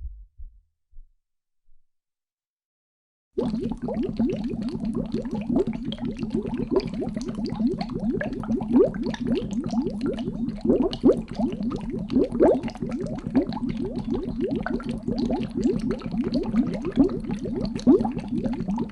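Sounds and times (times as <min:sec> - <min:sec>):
water bubbling and gurgling: 0:03.4 - 0:18.9.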